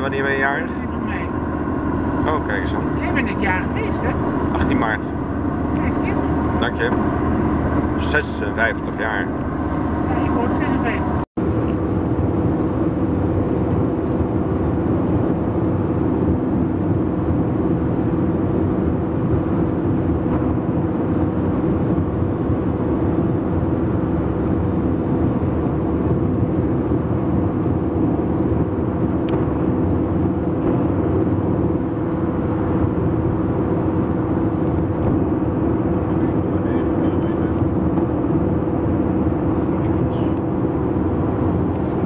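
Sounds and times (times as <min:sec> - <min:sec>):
car engine hum: 0:00.0 - 0:42.0
tyre road noise: 0:00.0 - 0:42.0.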